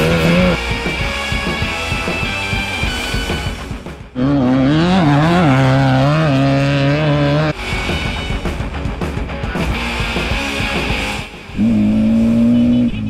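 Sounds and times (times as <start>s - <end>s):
off-road vehicle engines: 0.0s - 13.0s
rock music with electric guitar: 0.0s - 13.0s.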